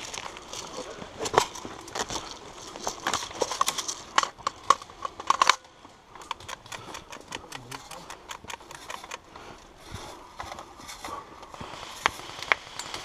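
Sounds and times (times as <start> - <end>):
footsteps on dry woodland path: 0.0 - 5.1, 5.8 - 13.0
rattle of rifle and kit: 0.0 - 11.2.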